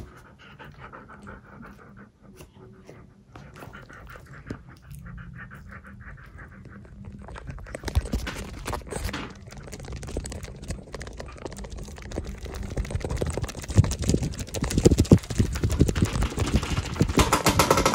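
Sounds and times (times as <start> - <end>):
dog panting: 0.0 - 17.3.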